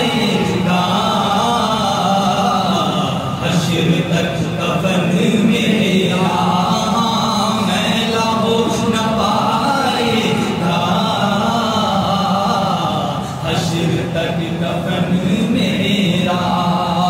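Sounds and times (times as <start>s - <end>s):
men singing devotional song: 0.0s - 17.0s.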